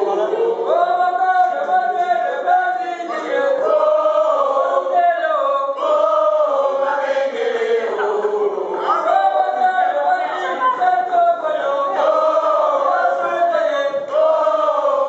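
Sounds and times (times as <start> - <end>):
group singing in unison: 0.0 - 15.0.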